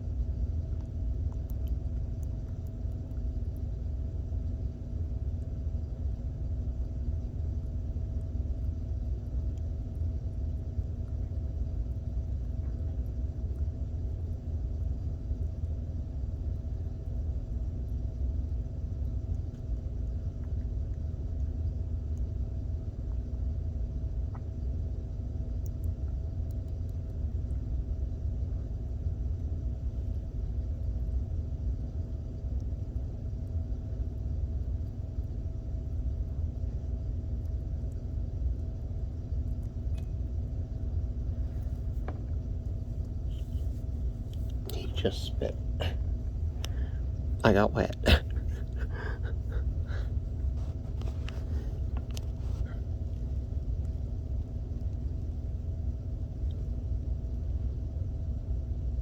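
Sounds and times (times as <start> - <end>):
faint steady hum: 0.0 - 59.0
low rumble: 0.0 - 59.0.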